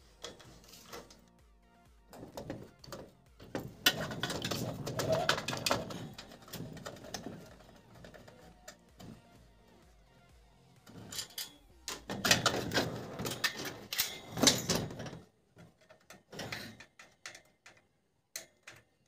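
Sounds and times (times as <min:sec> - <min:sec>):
plastic heater knocking and scraping: 0:00.0 - 0:01.3, 0:02.0 - 0:09.9, 0:10.8 - 0:17.7.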